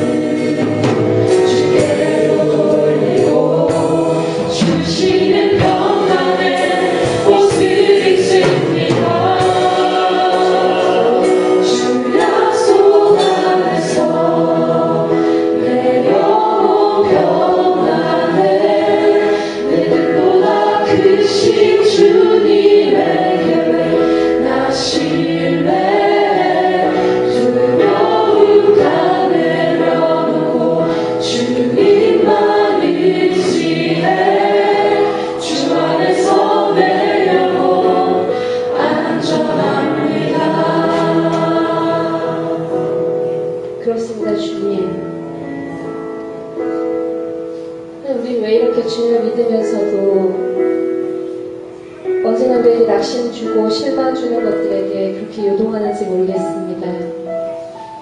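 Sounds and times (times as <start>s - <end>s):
congregation singing worship song: 0.0s - 58.0s
musical accompaniment: 0.0s - 58.0s.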